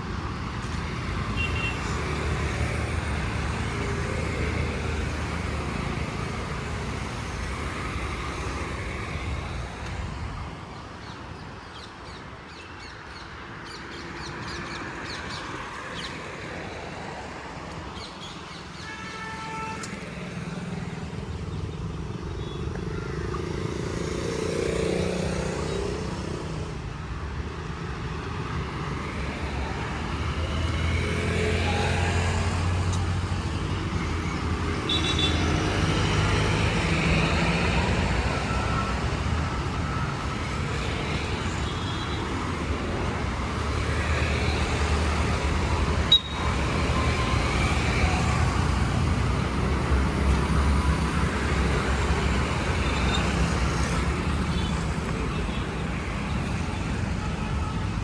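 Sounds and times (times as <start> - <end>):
road traffic engines rumbling: 0.0 - 58.0.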